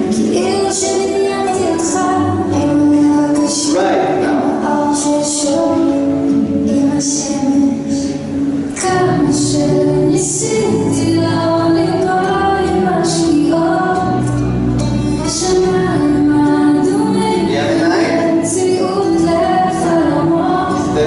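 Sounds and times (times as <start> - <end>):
bass: 0.0 - 21.0
woman singing: 0.0 - 21.0.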